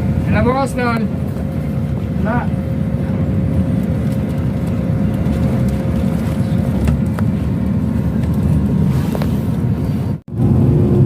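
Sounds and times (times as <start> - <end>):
bus engine rumble: 0.0 - 11.0
road noise: 0.0 - 11.0.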